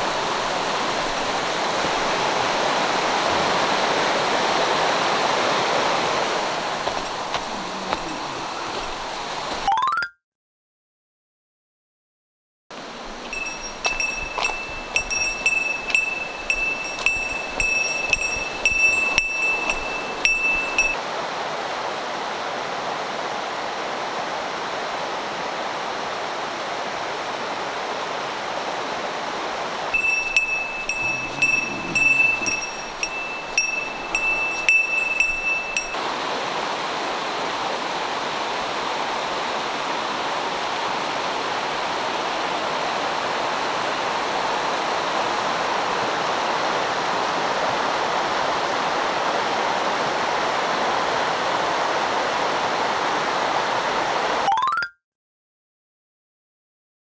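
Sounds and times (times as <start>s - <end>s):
stream rushing over rocks: 0.0s - 9.8s, 12.7s - 54.6s.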